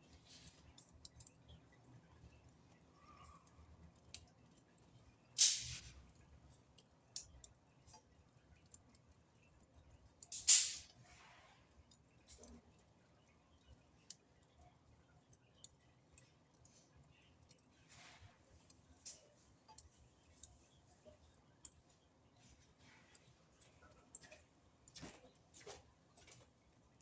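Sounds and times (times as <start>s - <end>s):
fire crackling and popping: 0.0s - 27.0s.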